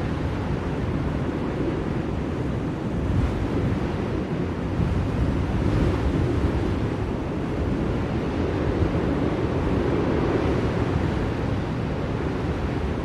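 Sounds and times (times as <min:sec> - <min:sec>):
blizzard wind rushing: 0:00.0 - 0:13.0.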